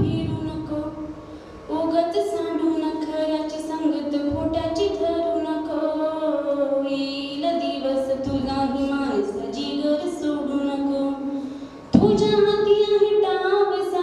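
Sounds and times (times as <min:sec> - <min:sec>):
girl singing into a microphone: 0:00.0 - 0:11.4, 0:12.0 - 0:14.0.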